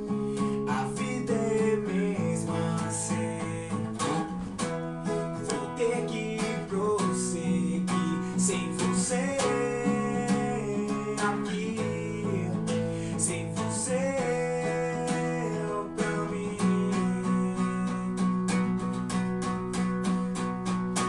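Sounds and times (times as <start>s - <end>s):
man singing: 0.0s - 18.9s
acoustic guitar strumming: 0.0s - 21.0s.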